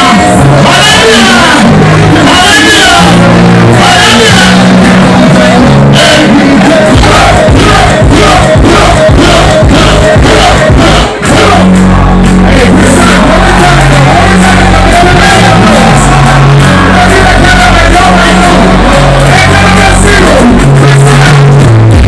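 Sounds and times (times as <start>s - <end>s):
crowd shouting along: 0.0s - 22.0s
heavy bass notes: 0.0s - 22.0s
loud live music: 0.0s - 22.0s
person singing: 0.0s - 22.0s.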